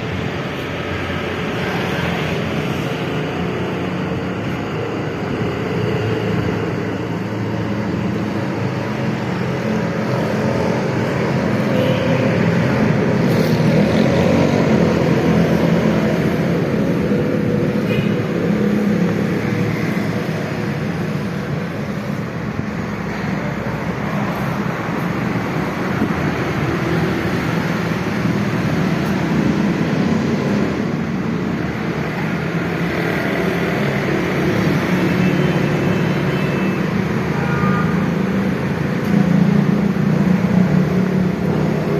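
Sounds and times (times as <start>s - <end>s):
car running with road noise: 0.0s - 41.9s.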